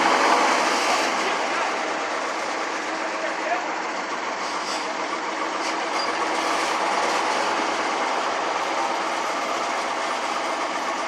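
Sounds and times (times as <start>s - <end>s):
diesel engine deep rumble: 0.0s - 11.0s.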